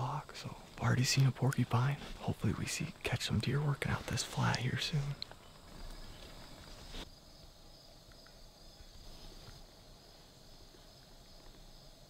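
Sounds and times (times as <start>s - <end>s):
crickets chirring: 0.0s - 12.0s
soft hiss: 0.0s - 12.0s.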